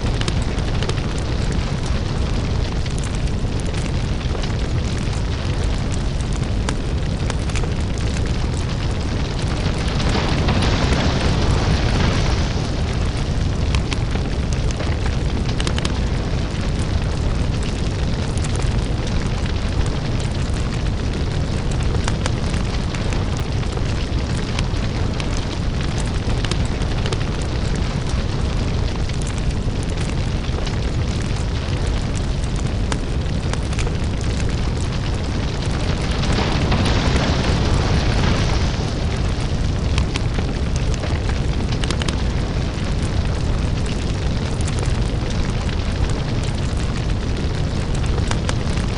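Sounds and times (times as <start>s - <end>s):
lava crackling and rumbling: 0.0s - 48.9s.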